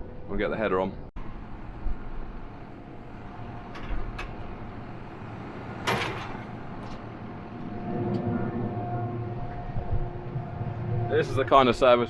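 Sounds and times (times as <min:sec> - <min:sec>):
heavy machinery engine rumbling: 0:01.2 - 0:12.0.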